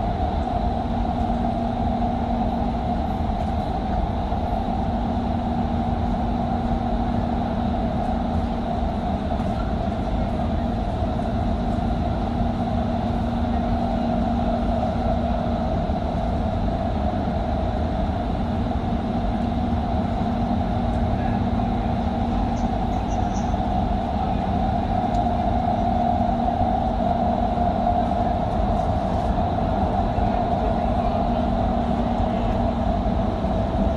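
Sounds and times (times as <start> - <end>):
constant hum: 0.0 - 33.9
train rumbling in tunnel: 0.0 - 33.9.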